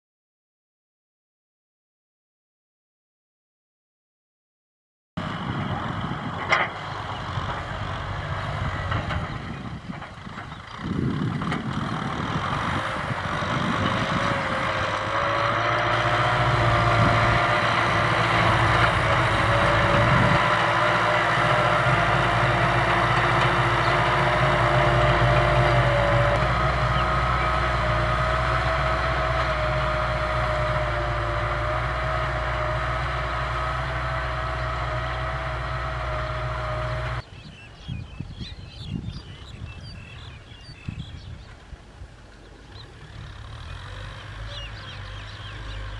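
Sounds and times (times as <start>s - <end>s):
tractor engine running: 5.2s - 37.2s, 41.0s - 45.9s.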